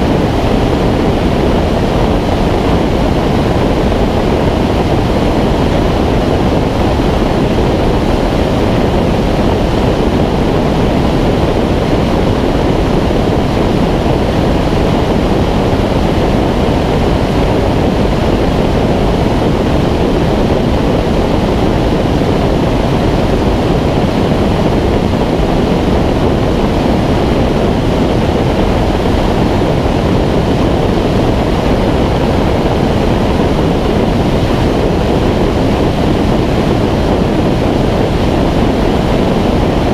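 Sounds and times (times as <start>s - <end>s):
rushing airflow roar: 0.0s - 39.9s
wind buffeting microphone: 0.0s - 39.9s.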